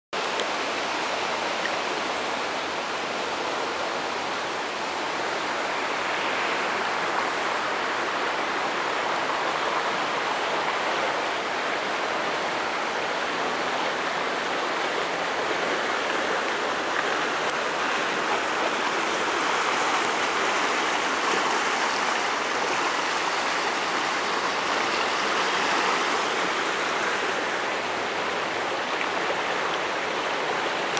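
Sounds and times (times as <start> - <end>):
river floodwater rushing: 0.2 - 30.9.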